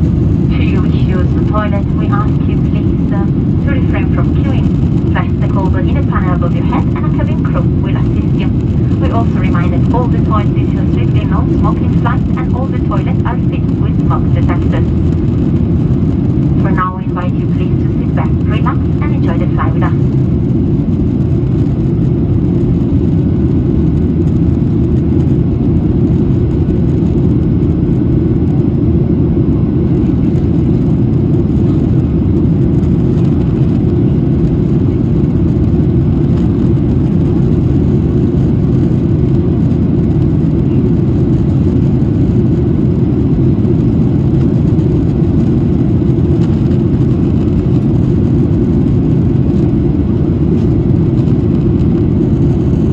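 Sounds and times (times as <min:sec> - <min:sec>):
airplane cabin rumble: 0:00.0 - 0:52.9.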